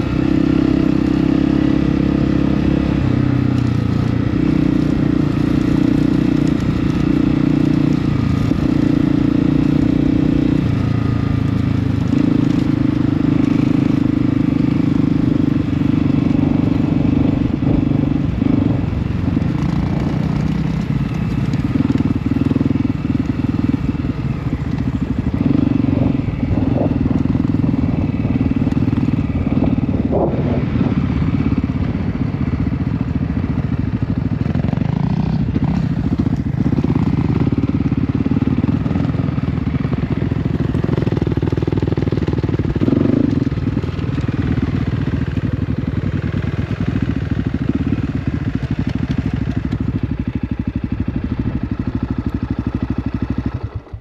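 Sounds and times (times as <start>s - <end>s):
motorcycle engine revving under load: 0.0s - 54.0s.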